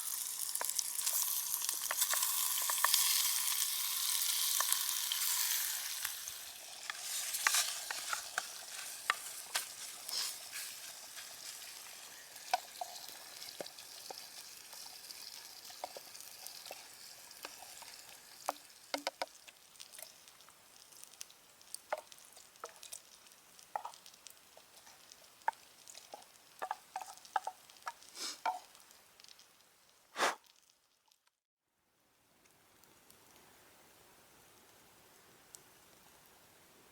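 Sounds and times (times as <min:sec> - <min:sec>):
fire crackles and clicks: 0:00.0 - 0:31.0
food sizzling in a tin: 0:00.0 - 0:31.0.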